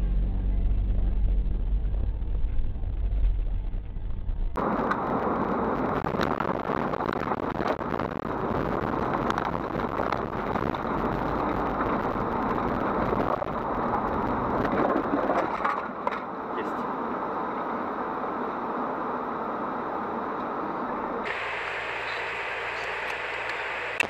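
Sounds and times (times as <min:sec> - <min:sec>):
low rumble inside car: 0:00.0 - 0:24.0
wind and road noise rushing: 0:00.0 - 0:24.0.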